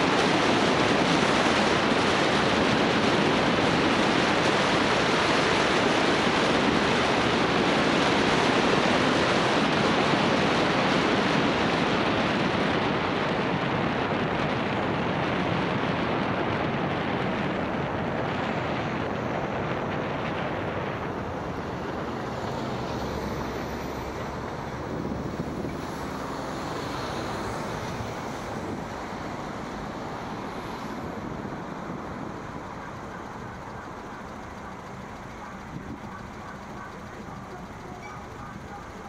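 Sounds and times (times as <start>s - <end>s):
motorway traffic rush: 0.0s - 39.0s.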